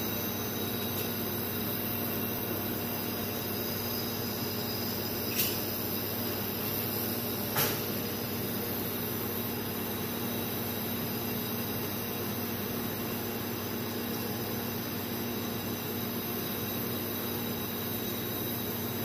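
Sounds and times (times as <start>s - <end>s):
welding machine hum and hiss: 0.0s - 19.0s.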